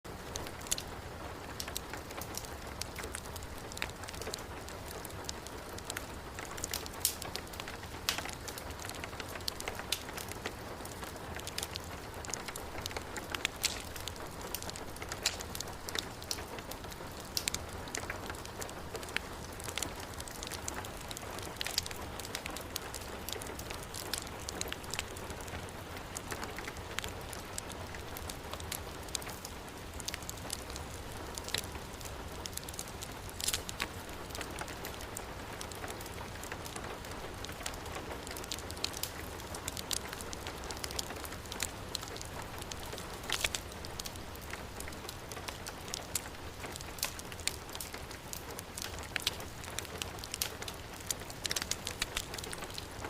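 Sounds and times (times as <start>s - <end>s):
heavy rain: 0.0s - 53.0s
wood fire crackling: 0.1s - 53.0s.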